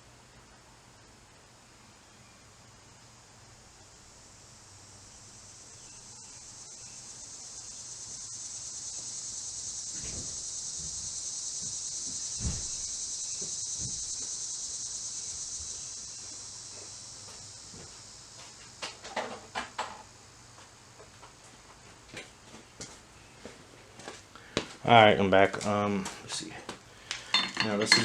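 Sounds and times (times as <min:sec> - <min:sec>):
insects buzzing: 0:00.1 - 0:28.0.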